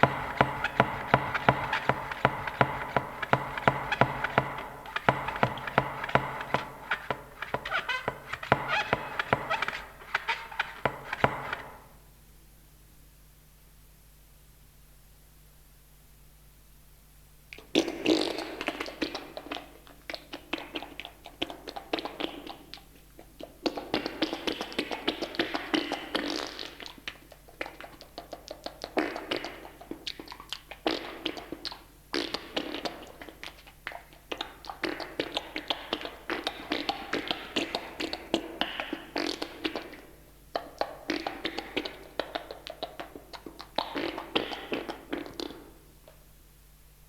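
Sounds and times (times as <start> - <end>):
tape hiss: 0.0 - 47.0.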